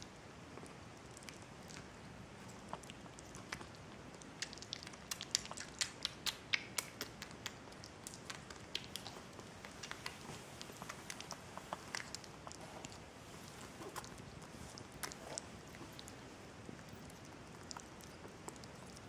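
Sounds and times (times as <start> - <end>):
kitten chewing crunchy food: 0.0 - 19.0.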